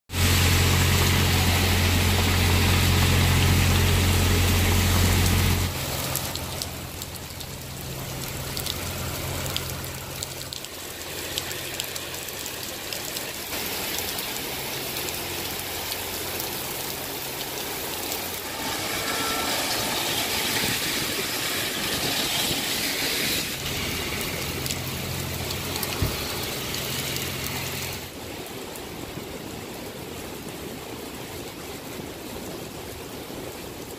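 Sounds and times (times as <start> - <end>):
generator engine drone: 0.1 - 12.9, 13.5 - 28.1
traffic engine hum: 0.1 - 28.2
heavy rain on street: 0.1 - 33.9.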